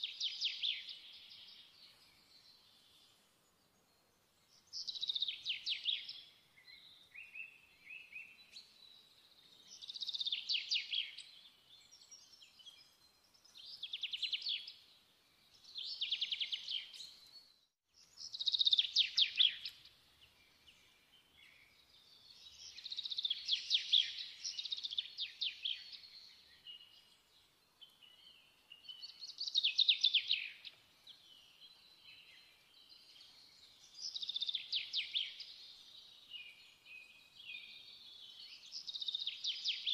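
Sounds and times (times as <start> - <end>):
songbird singing trilled notes: 0.0 - 3.2, 3.8 - 39.9.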